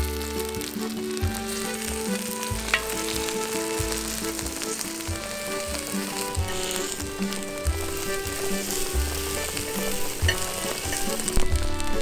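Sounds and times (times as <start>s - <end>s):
pancakes sizzling on griddle: 0.0s - 12.0s
soft background music: 0.0s - 12.0s.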